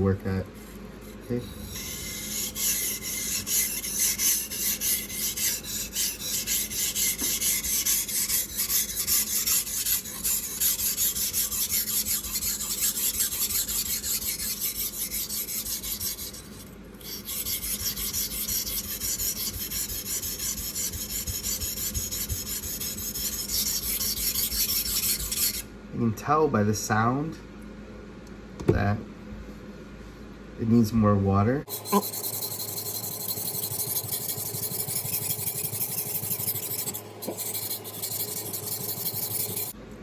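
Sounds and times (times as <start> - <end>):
knife scraping on a water stone: 0.6 - 25.6, 31.7 - 39.8.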